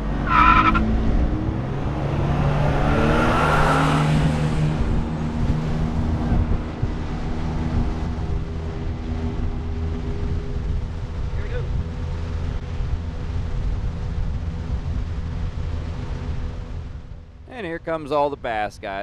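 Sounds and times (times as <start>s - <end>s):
outboard motor accelerating: 0.0s - 18.0s
wind and water rushing: 0.0s - 18.7s.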